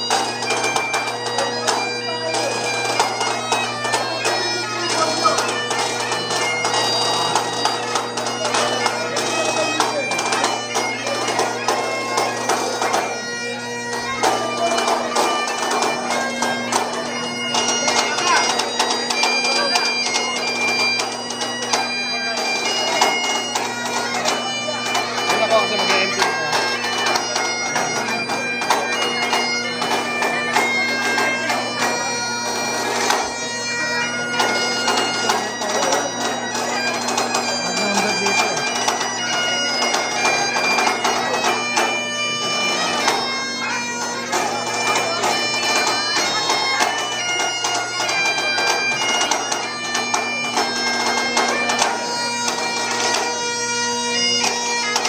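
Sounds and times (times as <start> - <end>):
bagpipes playing a tune: 0.0 - 55.0.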